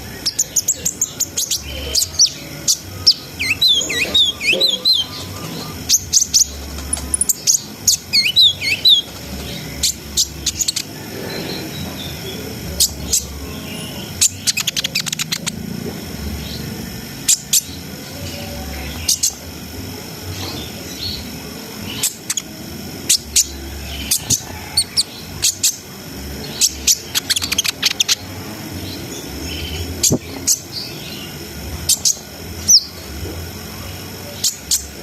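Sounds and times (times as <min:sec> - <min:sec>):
bird chipping and rattling song: 0:00.0 - 0:15.6, 0:20.3 - 0:33.1, 0:34.4 - 0:35.0.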